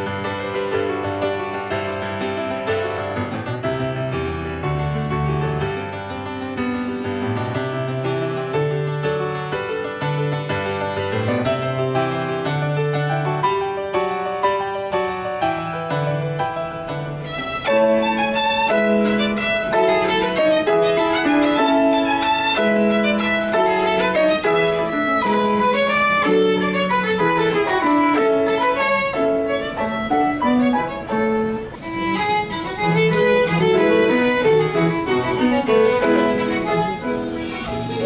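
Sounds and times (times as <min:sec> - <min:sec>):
piano accompaniment: 0:00.0 - 0:38.0
violin melody: 0:00.0 - 0:38.0.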